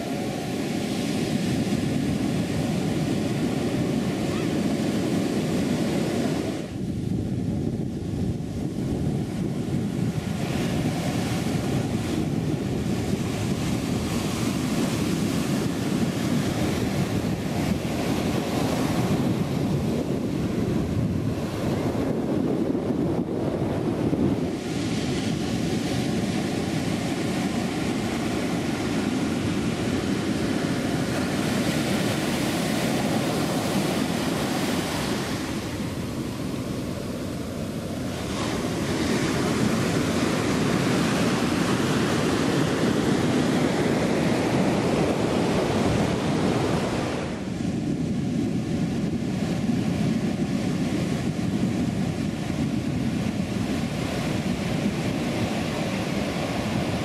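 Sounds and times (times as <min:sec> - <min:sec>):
ocean surf breaking on shore: 0:00.0 - 0:57.0
wind buffeting microphone: 0:00.0 - 0:57.0.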